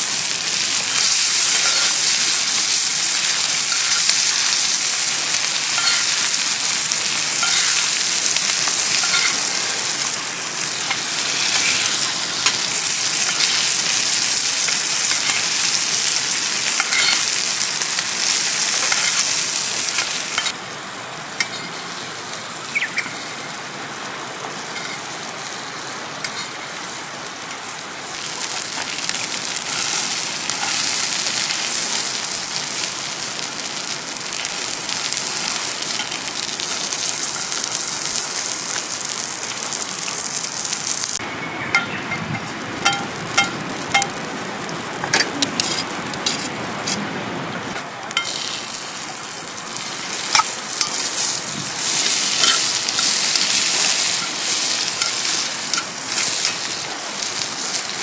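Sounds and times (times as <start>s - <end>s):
steak sizzling in a pan: 0.0s - 20.6s, 24.5s - 41.2s, 48.1s - 58.0s.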